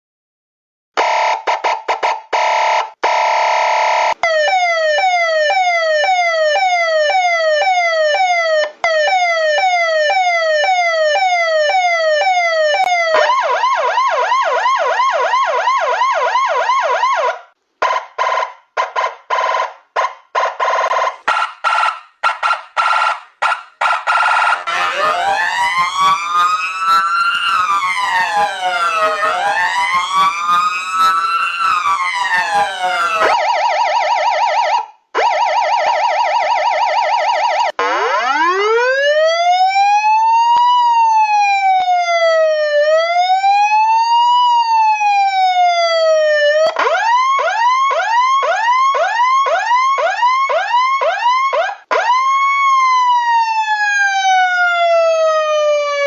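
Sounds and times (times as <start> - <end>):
electronic sirens: 1.0 - 56.0.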